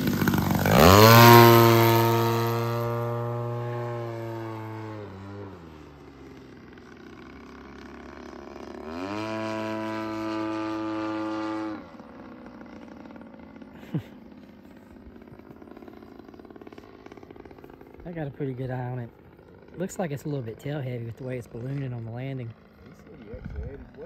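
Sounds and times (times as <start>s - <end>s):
model plane engine passing: 0.0s - 24.0s.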